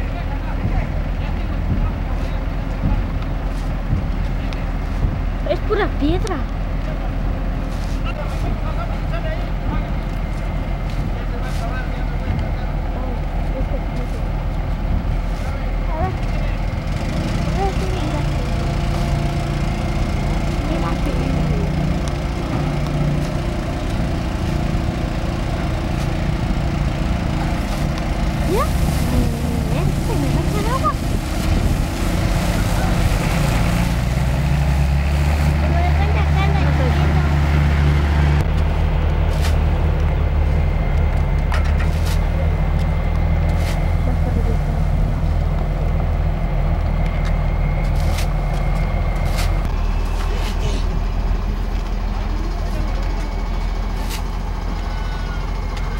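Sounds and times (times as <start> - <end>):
truck diesel engine idling: 0.0 - 55.9.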